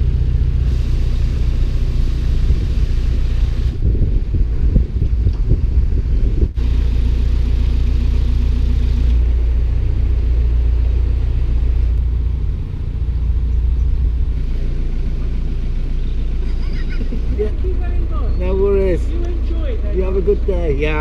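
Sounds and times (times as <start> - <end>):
boat engine low rumble: 0.0 - 21.0.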